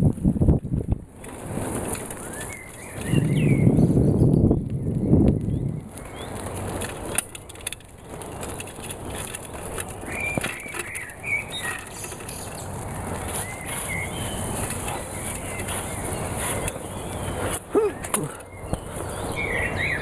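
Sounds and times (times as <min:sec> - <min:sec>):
small birds chirping: 0:02.0 - 0:08.4, 0:09.1 - 0:20.0.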